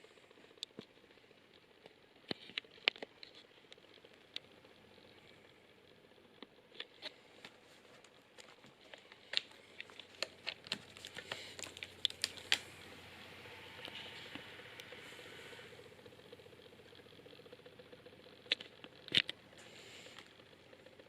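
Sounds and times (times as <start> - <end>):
faint hum: 0.0 - 21.0.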